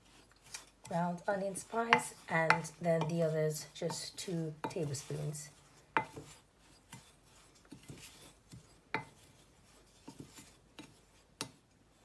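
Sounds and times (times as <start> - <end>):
spoon scraping dry spices: 0.0 - 12.0.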